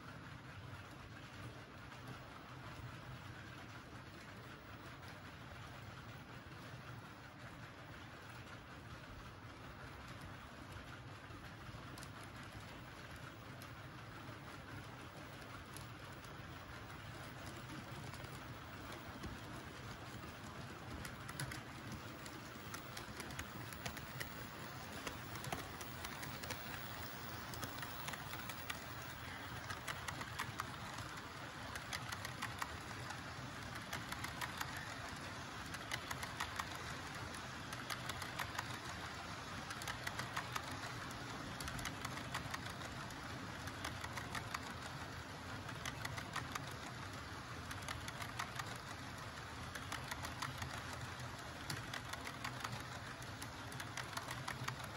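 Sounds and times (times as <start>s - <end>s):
model train wheels clicking on track: 0.0s - 54.9s.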